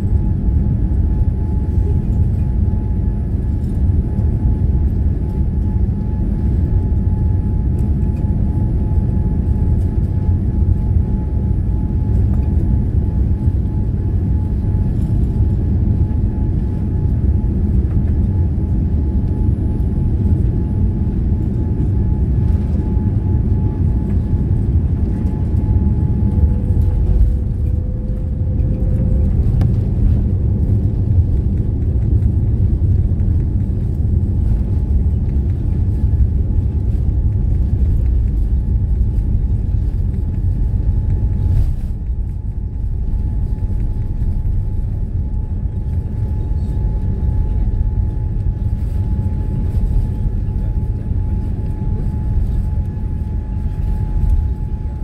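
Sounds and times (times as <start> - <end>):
jet wheels and engines rumbling: 0.0 - 55.0.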